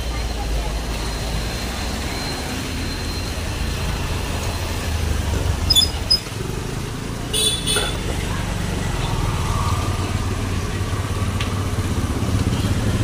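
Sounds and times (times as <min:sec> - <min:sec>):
traffic rumble on wet road: 0:00.0 - 0:13.0.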